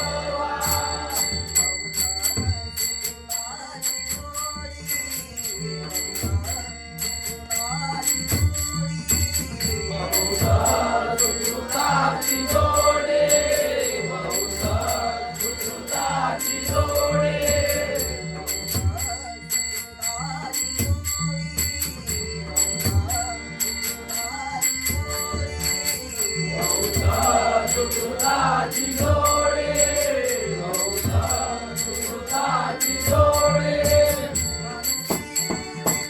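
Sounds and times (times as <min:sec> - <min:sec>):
hand cymbals ringing: 0:00.0 - 0:36.0
people singing: 0:00.0 - 0:36.0.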